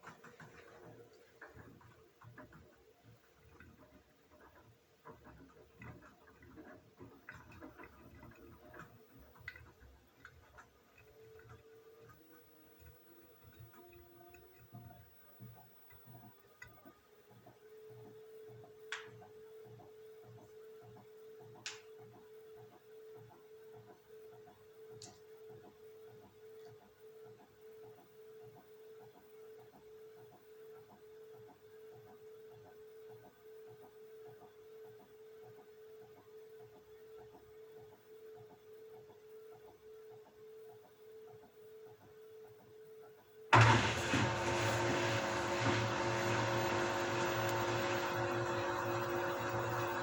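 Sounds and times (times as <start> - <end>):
washing machine faint pulsing hum: 0.0 - 50.0.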